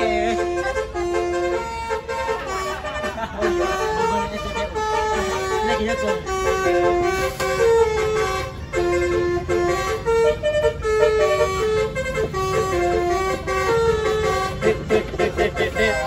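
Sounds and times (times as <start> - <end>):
bus engine rumble: 0.0 - 16.0
musical bus air horn melody: 0.0 - 16.0.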